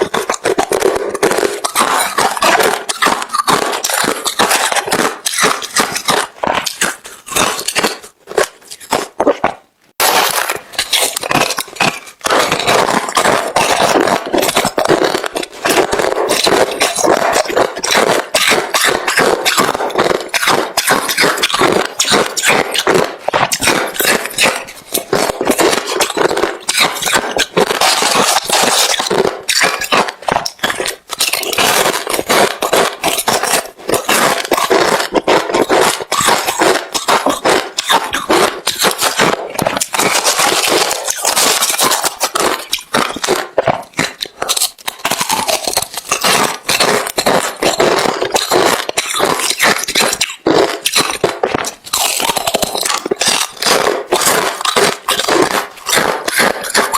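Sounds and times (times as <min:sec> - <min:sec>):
chewing crushed ice: 0:00.0 - 0:56.9.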